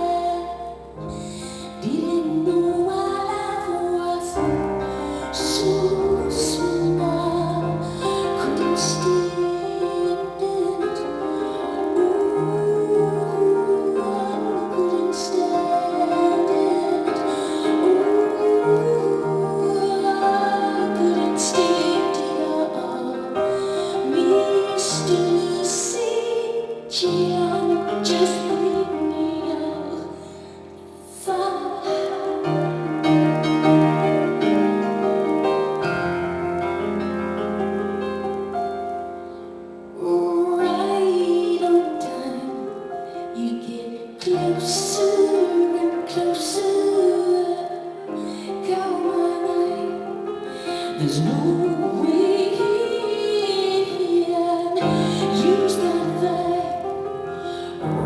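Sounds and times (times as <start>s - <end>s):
woman singing: 0.0s - 35.4s, 39.9s - 58.0s
piano and keyboards: 0.0s - 58.0s.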